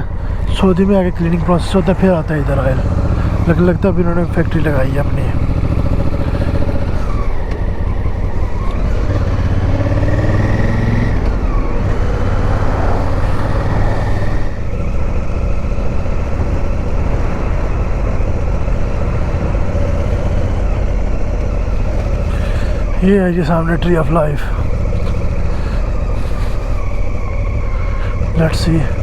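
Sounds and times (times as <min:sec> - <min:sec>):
motorcycle engine: 0:00.0 - 0:29.0.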